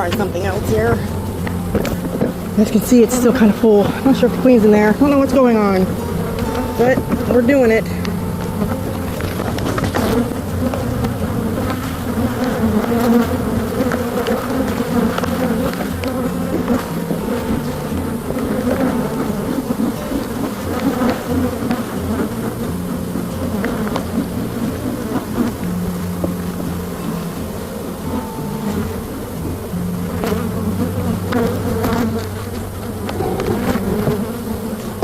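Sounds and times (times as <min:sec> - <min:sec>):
bee swarm buzzing: 0:00.0 - 0:35.0.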